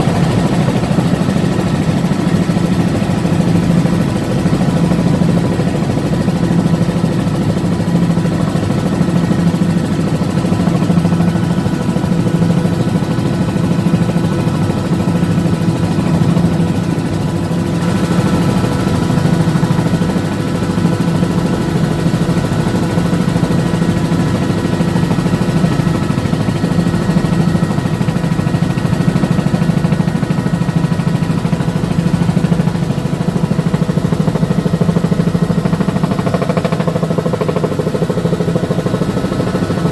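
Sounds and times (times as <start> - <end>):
helicopter engine and rotor running: 0.0 - 39.9.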